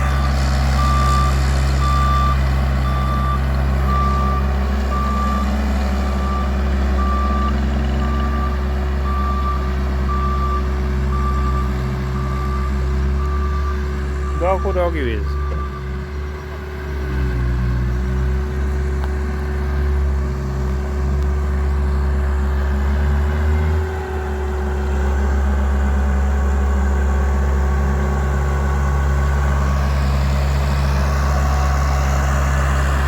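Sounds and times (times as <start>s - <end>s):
loader engine running: 0.0s - 33.0s.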